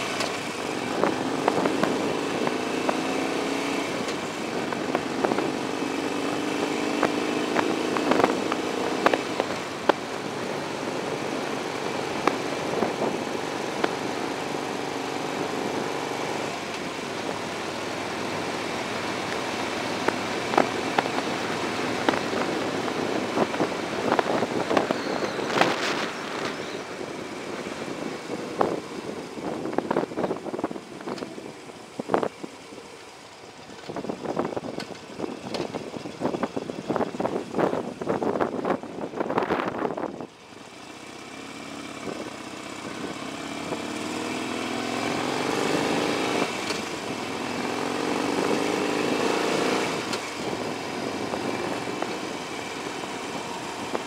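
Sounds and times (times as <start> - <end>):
motorbike engine: 0.0 - 54.0
wind and road noise: 0.0 - 54.0.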